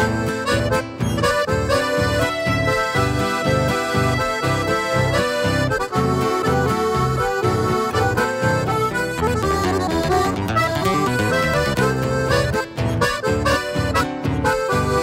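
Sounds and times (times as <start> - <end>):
acoustic guitar: 0.0 - 15.0
folk music on button accordion: 0.0 - 15.0.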